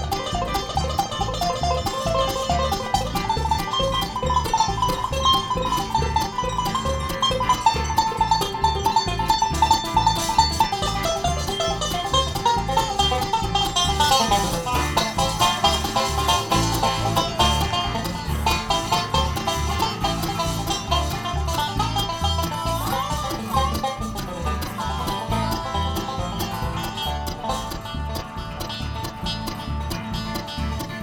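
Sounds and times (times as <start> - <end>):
banjo picking: 0.0 - 31.0
bass line: 0.0 - 31.0
guitar picking: 0.0 - 31.0.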